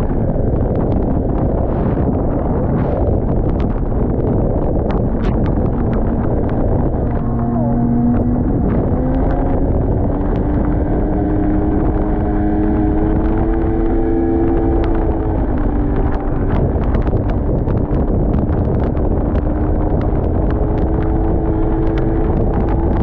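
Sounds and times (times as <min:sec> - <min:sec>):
snowmobile engine running: 0:00.0 - 0:23.0
wind rumble on microphone: 0:00.0 - 0:23.0.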